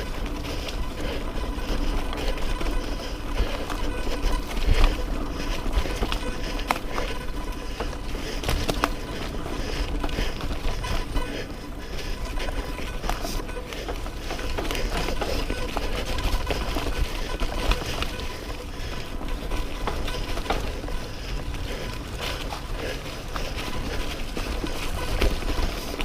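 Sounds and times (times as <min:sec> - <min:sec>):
bike rattles and knocks: 0:00.0 - 0:26.0.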